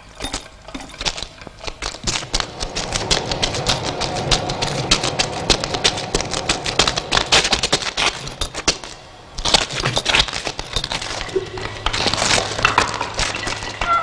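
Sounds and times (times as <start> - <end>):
rapid clicking and crackling: 0.0 - 14.0.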